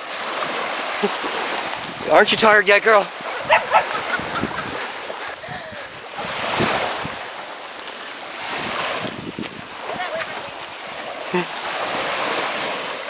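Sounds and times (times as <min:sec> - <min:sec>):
small waves washing on sand: 0:00.0 - 0:13.0.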